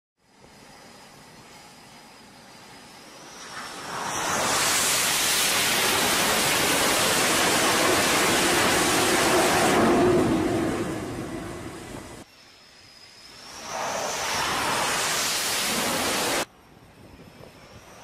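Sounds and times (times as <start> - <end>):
faint high whine: 0.2 - 18.0
jet engines at full power: 0.2 - 18.0.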